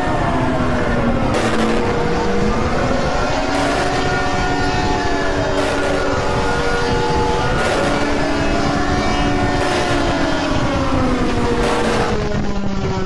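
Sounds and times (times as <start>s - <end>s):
alarm tones: 0.0s - 13.0s
loud rough noise: 0.0s - 13.0s.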